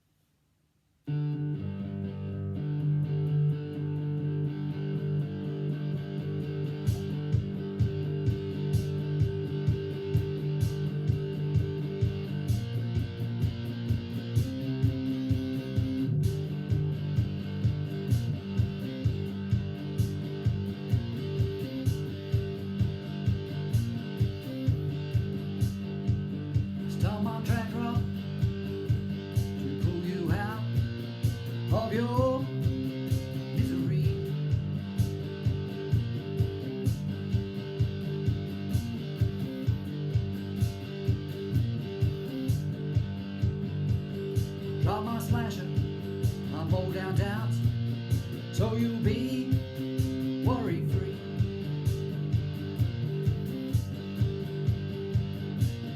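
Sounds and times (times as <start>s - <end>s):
instrumental guitar music: 1.1s - 55.9s.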